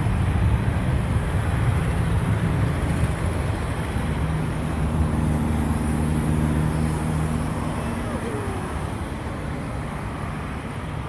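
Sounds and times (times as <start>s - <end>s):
jet engines rumbling and hissing: 0.0s - 11.0s.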